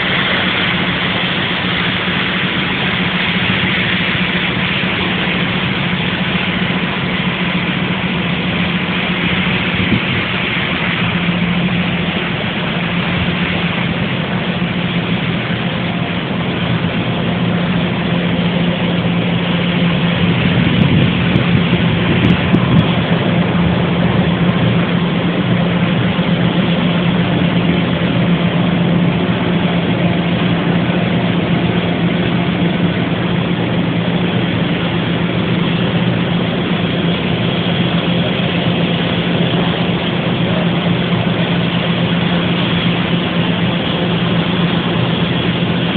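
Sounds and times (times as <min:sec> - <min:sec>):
large engine droning: 0:00.0 - 0:45.9.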